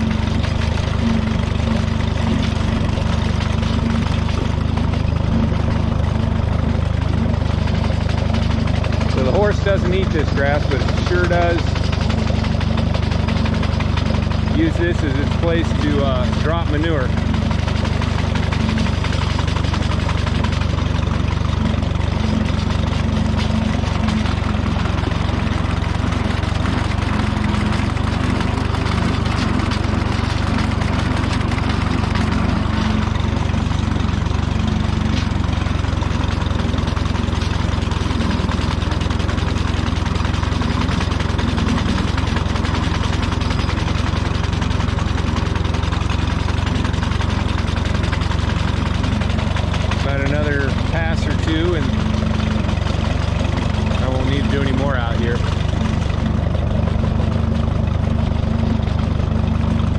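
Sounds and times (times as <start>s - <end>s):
sickle bar mower cutting grass: 0.0s - 59.9s
tractor engine running: 0.0s - 59.9s.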